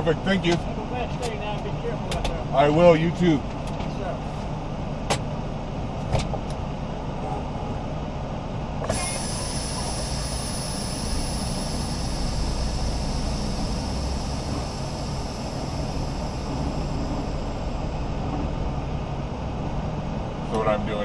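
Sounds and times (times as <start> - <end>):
truck engine low rumble: 0.0 - 21.0.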